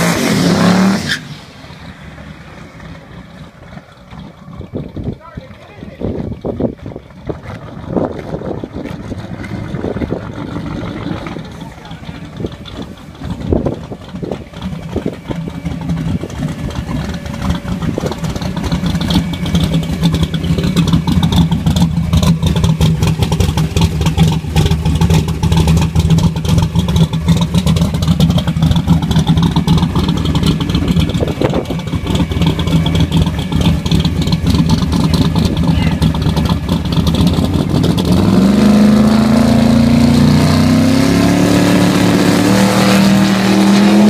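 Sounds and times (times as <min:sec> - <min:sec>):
car engine rough idle: 0:01.4 - 0:40.7.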